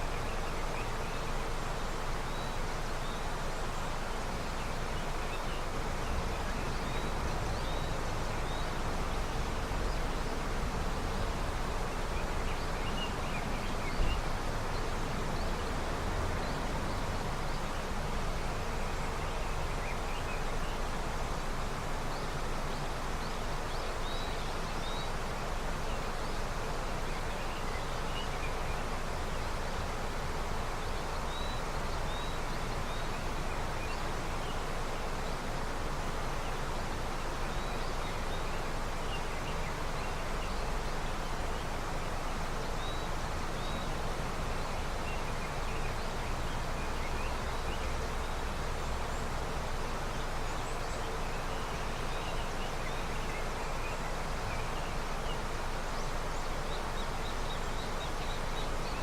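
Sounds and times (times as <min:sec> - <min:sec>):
river rushing: 0:00.0 - 0:59.0
small birds chirping: 0:00.0 - 0:59.0.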